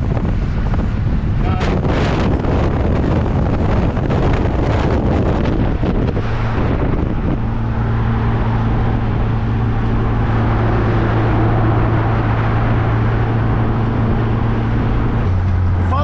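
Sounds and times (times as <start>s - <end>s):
car engine running steadily: 0.0s - 16.0s
road and wind noise: 0.0s - 16.0s.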